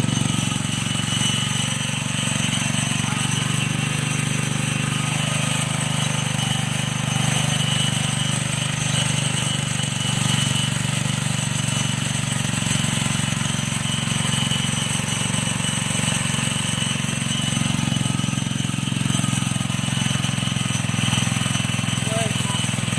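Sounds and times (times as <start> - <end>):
pellet machine motor humming: 0.0 - 22.9.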